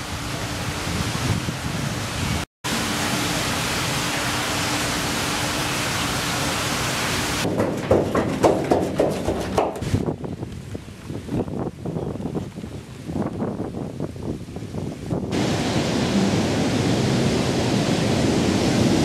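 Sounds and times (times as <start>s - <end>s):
outdoor ambience hiss: 0.0s - 19.0s.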